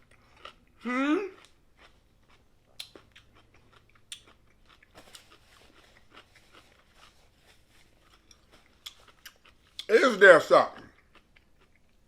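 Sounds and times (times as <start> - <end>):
quiet chewing: 0.0 - 9.9, 10.8 - 12.0.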